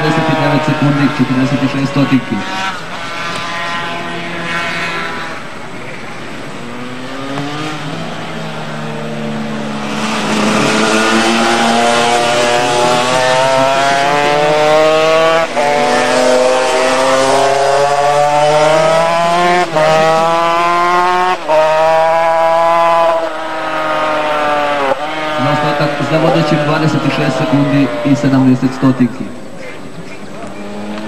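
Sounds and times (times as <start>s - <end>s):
motorcycle engine accelerating: 0.0s - 29.5s, 30.2s - 31.0s.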